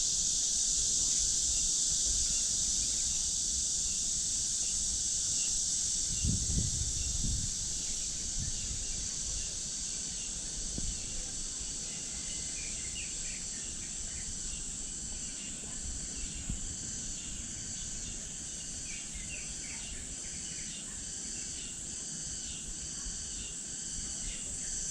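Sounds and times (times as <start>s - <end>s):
insects chorus: 0.0s - 24.9s.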